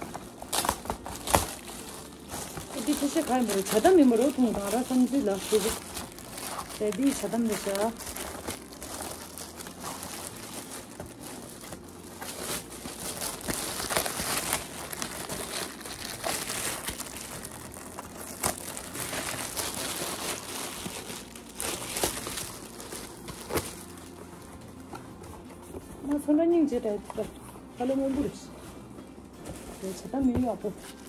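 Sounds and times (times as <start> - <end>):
gift wrap crinkling: 0.0 - 31.0.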